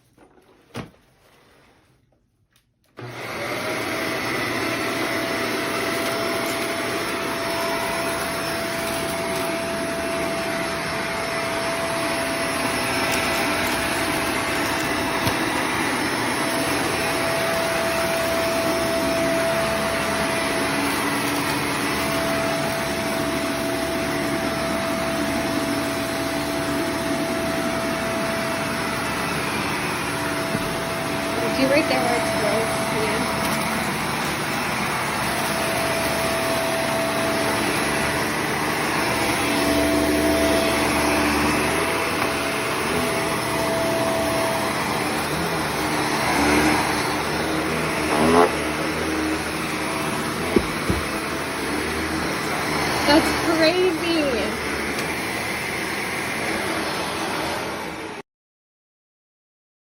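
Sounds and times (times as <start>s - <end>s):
upright vacuum cleaner running: 2.8s - 58.2s.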